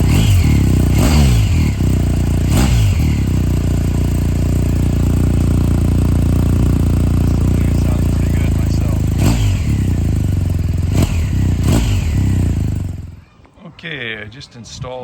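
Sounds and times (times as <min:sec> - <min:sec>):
motorcycle engine revving: 0:00.0 - 0:13.2
motorcycle engine idling: 0:00.0 - 0:13.3.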